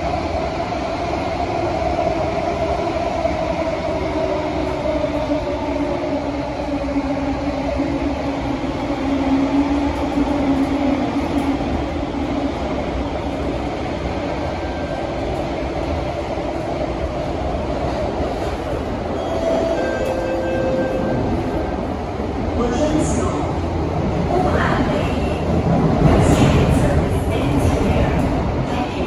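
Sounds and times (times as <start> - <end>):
train wheels rumbling on rail: 0.0 - 29.0
train whine: 0.0 - 29.0.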